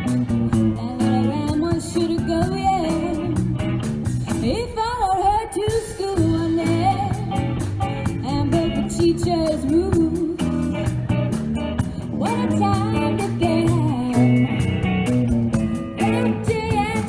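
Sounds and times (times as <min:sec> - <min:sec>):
steady beat: 0:00.0 - 0:04.5, 0:06.2 - 0:17.0
guitar: 0:00.0 - 0:17.0.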